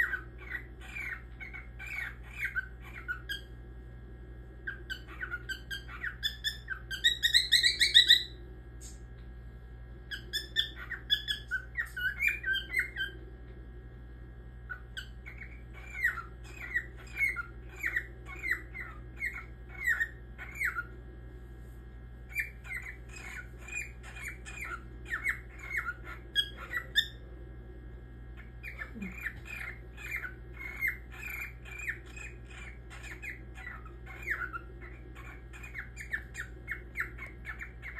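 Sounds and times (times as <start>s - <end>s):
cockatiel chirping: 0.0s - 3.6s, 4.6s - 9.0s, 10.1s - 13.2s, 14.7s - 21.0s, 22.3s - 27.2s, 28.4s - 37.9s.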